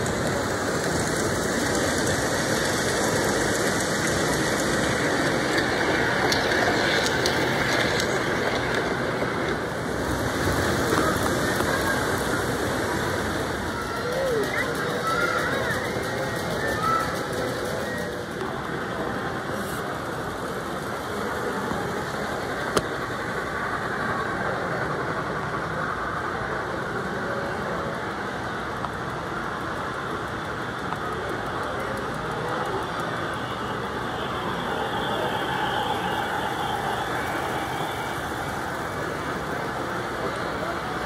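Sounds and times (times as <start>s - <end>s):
model trains rumbling on track: 0.0s - 41.0s.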